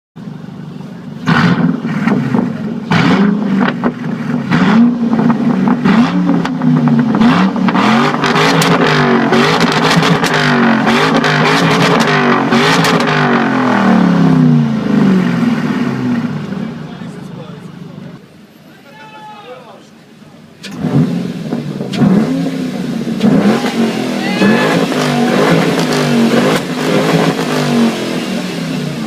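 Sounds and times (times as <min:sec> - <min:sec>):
car engine revving: 0:00.2 - 0:18.3, 0:20.4 - 0:29.0.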